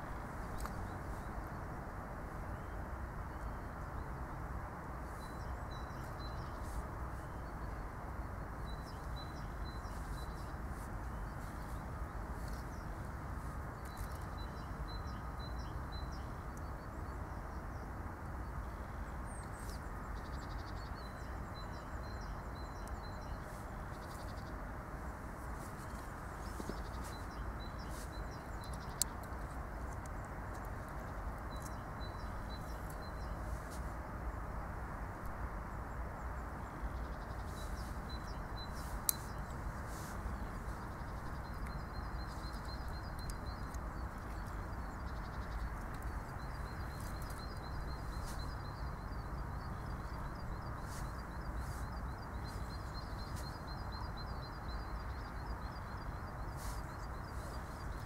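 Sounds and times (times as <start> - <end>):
small birds chirping: 0.0 - 1.7, 4.9 - 58.0
steady background noise: 0.0 - 58.0.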